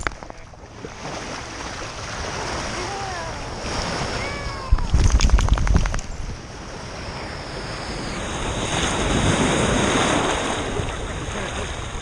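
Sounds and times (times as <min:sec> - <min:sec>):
wind buffeting microphone: 0:00.0 - 0:12.0
ocean wave washing in: 0:00.8 - 0:12.0.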